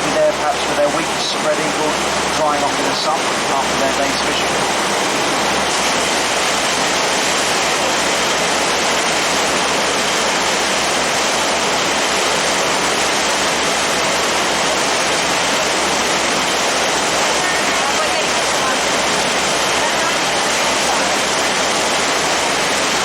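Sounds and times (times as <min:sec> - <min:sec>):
wind and water rushing: 0:00.0 - 0:23.0.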